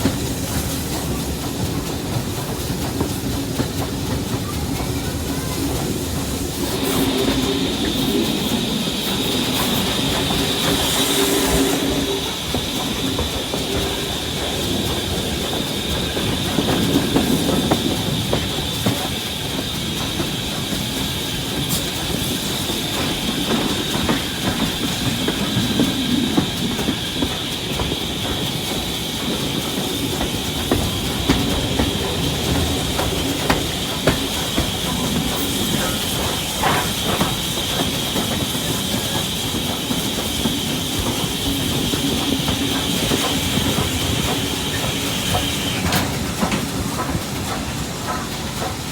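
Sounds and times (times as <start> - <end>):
train rumbling along track: 0.0 - 48.9
wheels clicking over rail joints: 0.0 - 48.9.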